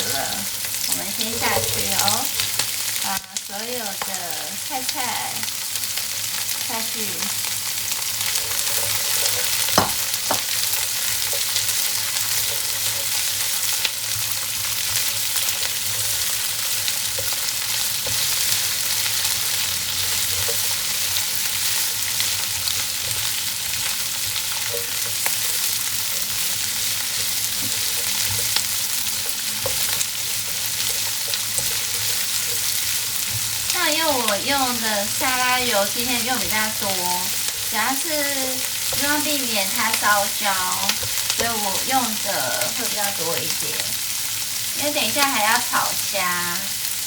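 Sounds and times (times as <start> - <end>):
vegetables sizzling in hot oil: 0.0 - 47.0.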